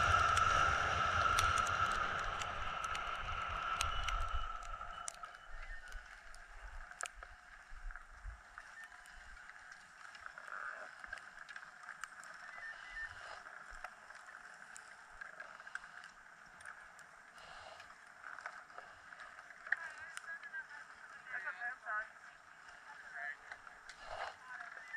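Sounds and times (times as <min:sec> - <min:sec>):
skis scraping over packed snow: 0:00.0 - 0:07.6, 0:08.4 - 0:24.9
faint steady hum: 0:00.0 - 0:24.9.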